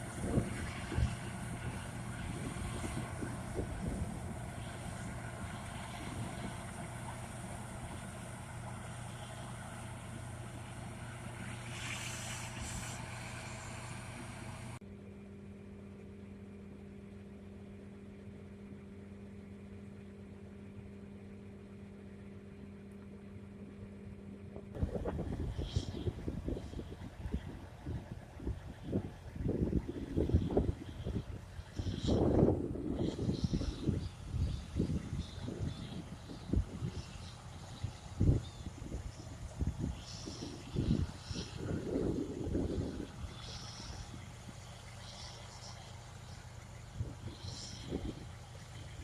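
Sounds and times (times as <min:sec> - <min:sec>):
steady low hum: 0:00.0 - 0:49.0
tractor engine running: 0:00.0 - 0:49.0.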